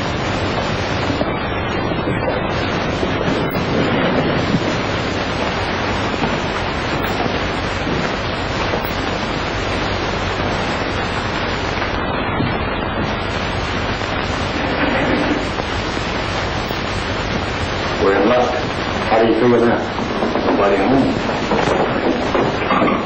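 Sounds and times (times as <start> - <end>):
old film soundtrack hiss and rumble: 0.0 - 23.0.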